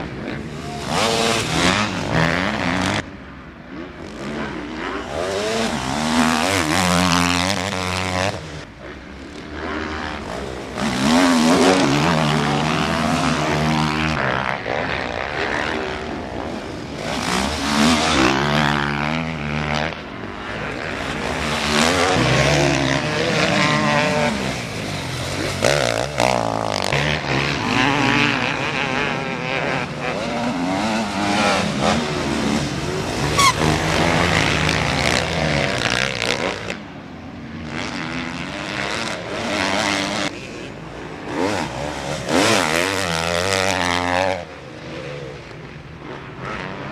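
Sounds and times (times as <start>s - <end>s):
motocross engines revving: 0.0s - 46.9s.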